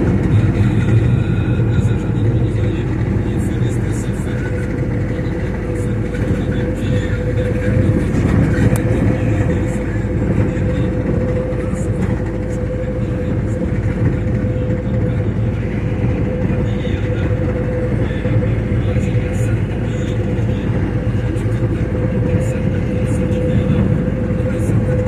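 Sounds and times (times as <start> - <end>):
constant whine: 0.0 - 25.0
moving vehicle rumble: 0.0 - 25.0.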